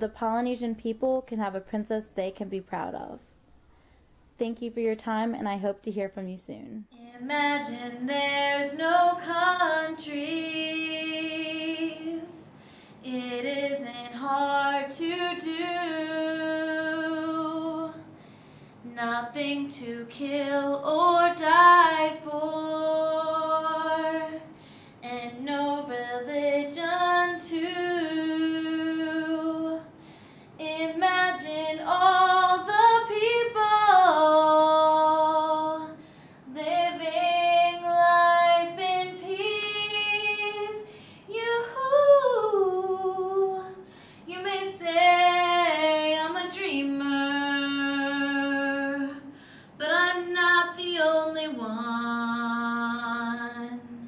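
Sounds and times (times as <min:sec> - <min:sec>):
woman singing a cappella: 0:06.9 - 0:18.2, 0:18.8 - 0:54.0.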